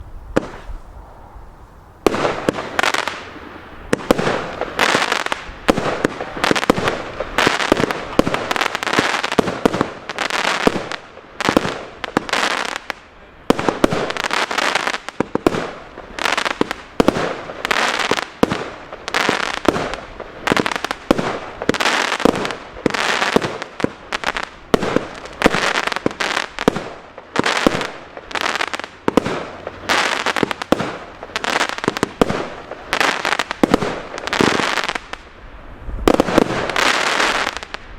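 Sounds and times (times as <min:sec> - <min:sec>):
firework bangs with crackle: 0:00.3 - 0:01.2, 0:02.0 - 0:35.3, 0:35.9 - 0:37.9.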